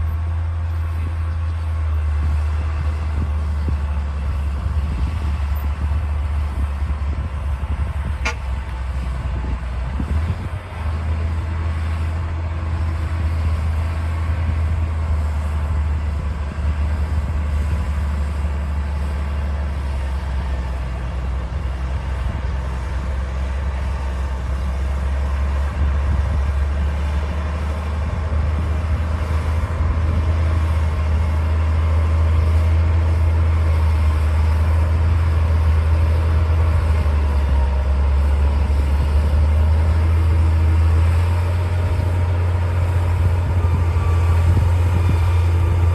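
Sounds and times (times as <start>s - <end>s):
bulldozer diesel engine: 0.0s - 45.9s.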